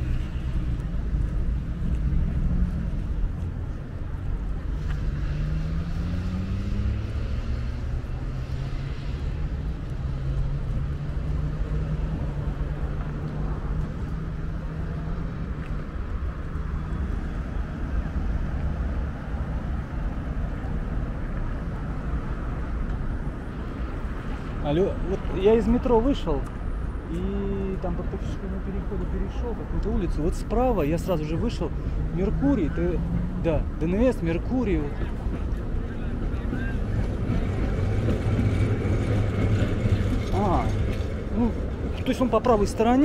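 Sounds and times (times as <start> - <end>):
vehicle engine humming: 0.0 - 43.0.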